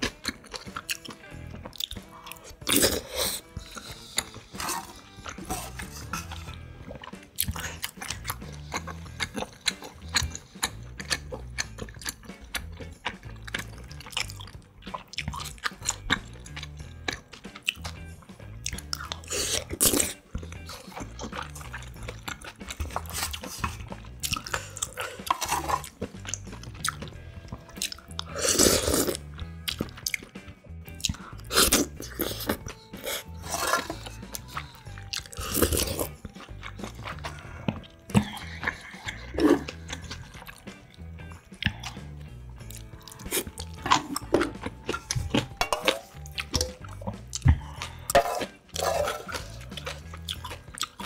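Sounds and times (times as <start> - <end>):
chewing: 0.0 - 51.0
slurping broth: 0.1 - 30.2, 31.0 - 51.0.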